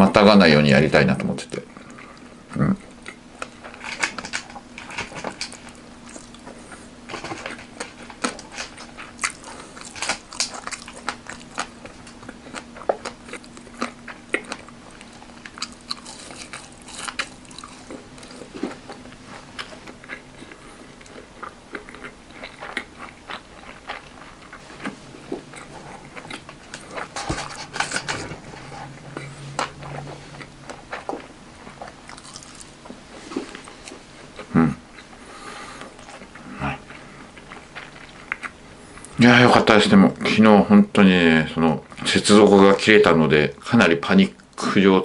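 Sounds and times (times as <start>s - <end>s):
person chewing crispy food: 1.7s - 39.2s.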